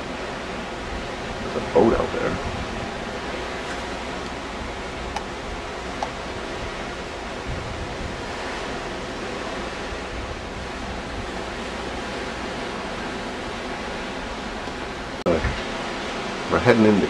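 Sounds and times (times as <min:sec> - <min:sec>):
wind and sea rushing: 0:00.0 - 0:17.0
wind rumble on microphone: 0:00.0 - 0:17.0.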